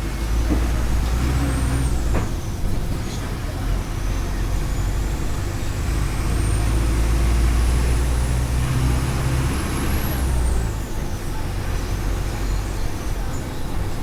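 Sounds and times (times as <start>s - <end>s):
bus diesel engine under load: 0.0s - 14.0s.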